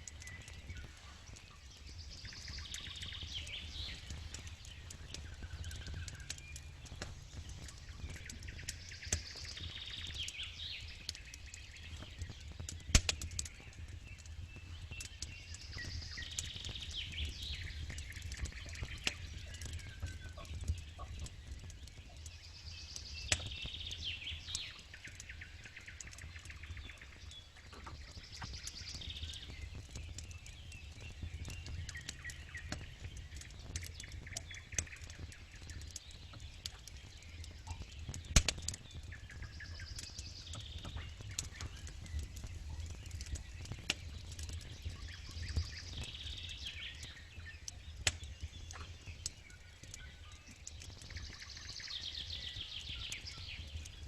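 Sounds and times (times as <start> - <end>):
campfire crackling and popping: 0.0 - 54.0
songbird singing: 0.0 - 54.0.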